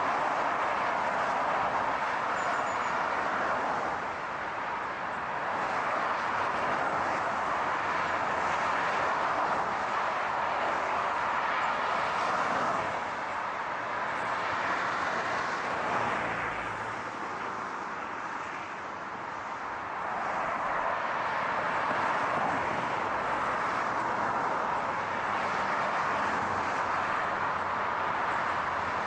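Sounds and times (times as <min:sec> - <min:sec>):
car road and tyre noise: 0:00.0 - 0:29.0.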